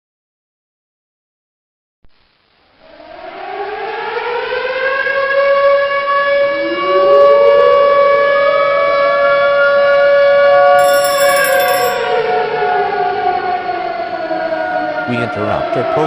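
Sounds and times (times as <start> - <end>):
second rising siren tone: 2.7 - 16.0
civil defense siren wailing: 2.8 - 16.0.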